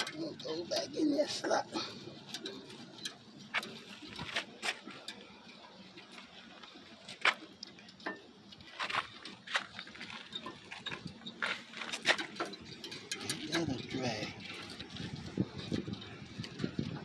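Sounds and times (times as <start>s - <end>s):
light metallic clicks and knocks: 0.0s - 17.0s.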